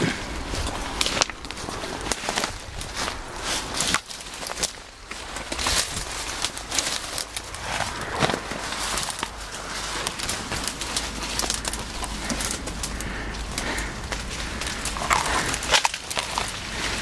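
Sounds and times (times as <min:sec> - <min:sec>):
footsteps crunching dry leaves: 0:00.0 - 0:17.0
twigs rustling and snapping: 0:00.0 - 0:17.0.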